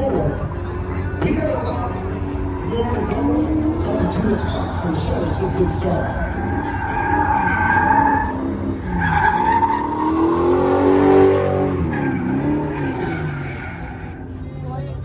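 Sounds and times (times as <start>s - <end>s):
car tyres squealing: 0.0s - 14.5s
car engine revving: 0.0s - 14.8s.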